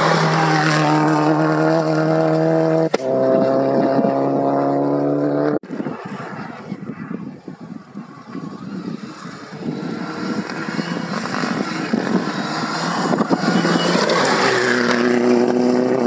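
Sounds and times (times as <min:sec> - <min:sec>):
rally car engine at high revs: 0:00.0 - 0:05.6, 0:08.6 - 0:16.0.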